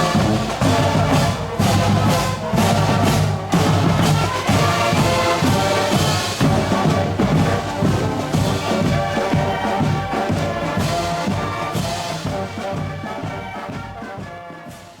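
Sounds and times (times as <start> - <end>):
background music with brass: 0.0 - 15.0.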